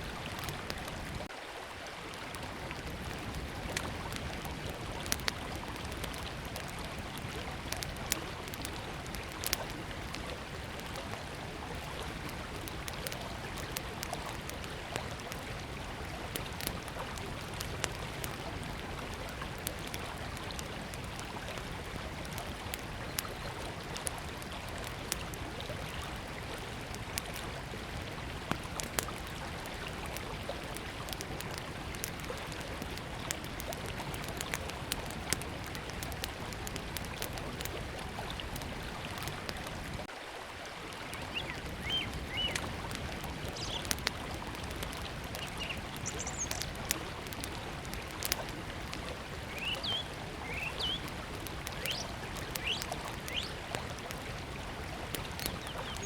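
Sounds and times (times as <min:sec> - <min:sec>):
river flowing: 0:00.0 - 0:56.0
small wood fire crackling: 0:00.0 - 0:56.0.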